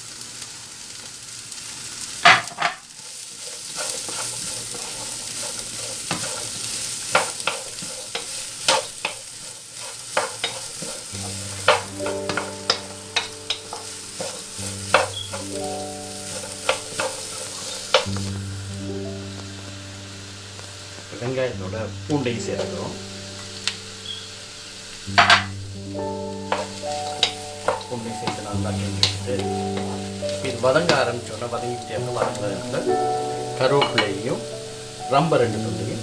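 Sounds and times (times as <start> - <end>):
onions sizzling in oil: 0.0 - 36.0
spoon scraping a pan: 2.2 - 19.8, 22.2 - 36.0.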